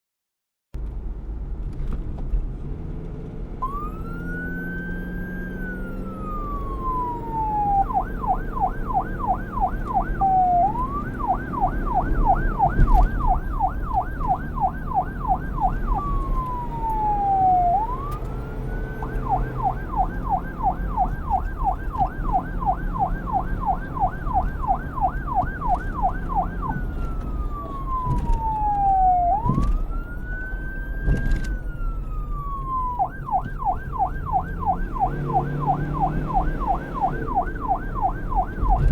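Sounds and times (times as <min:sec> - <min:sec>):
police siren wailing and yelping: 0:03.6 - 0:38.9.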